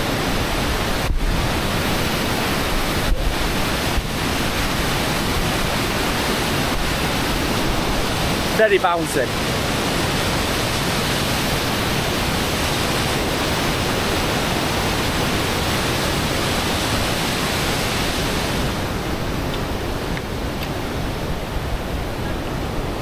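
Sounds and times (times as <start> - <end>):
river rushing over rocks: 0.0 - 23.0.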